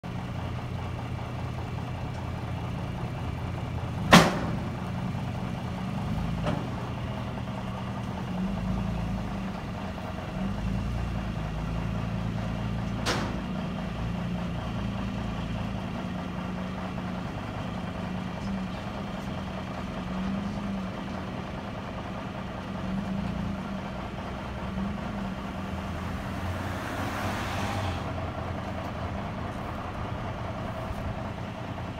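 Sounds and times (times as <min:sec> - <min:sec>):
truck engines idling: 0:00.0 - 0:31.9.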